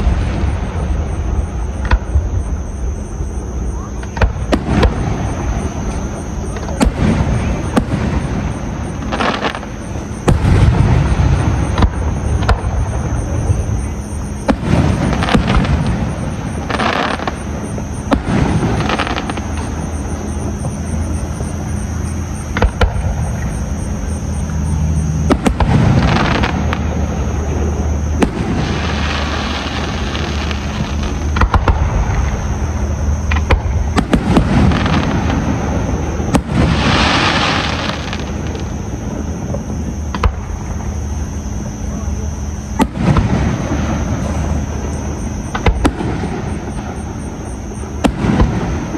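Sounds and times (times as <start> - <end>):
continuous low rumble: 0.0 - 48.9
firework crackling: 0.0 - 48.9.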